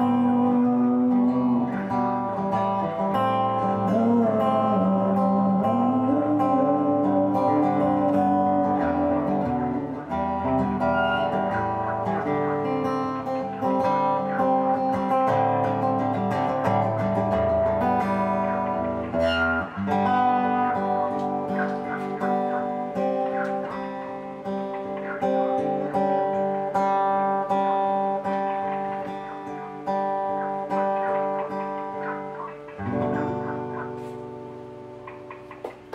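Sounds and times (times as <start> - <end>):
acoustic guitar playing: 0.0 - 35.9.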